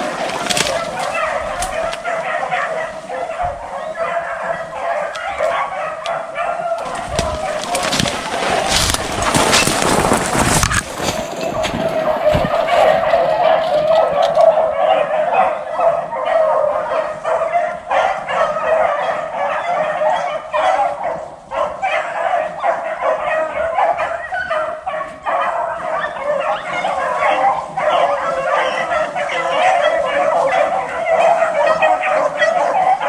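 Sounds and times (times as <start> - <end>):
dogs baying: 0.0 - 33.0.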